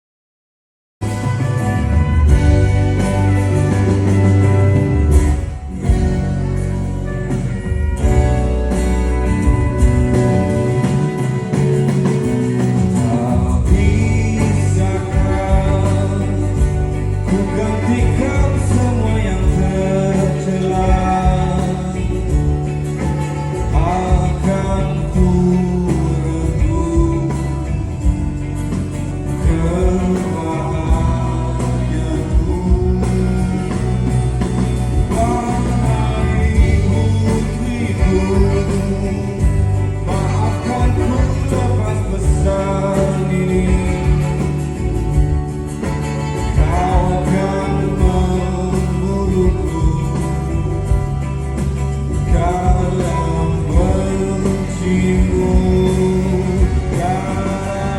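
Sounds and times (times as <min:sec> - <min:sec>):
live band bass and drums: 0:01.0 - 0:57.9
person singing: 0:02.6 - 0:57.9.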